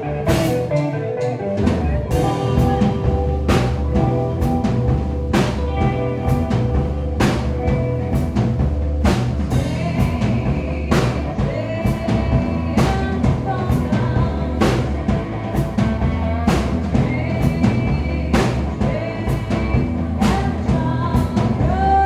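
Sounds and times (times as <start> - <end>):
live band playing: 0.0 - 22.0
drum kit with cymbal crashes: 0.3 - 0.9, 1.6 - 22.0
heavy sustained low notes: 1.6 - 22.0.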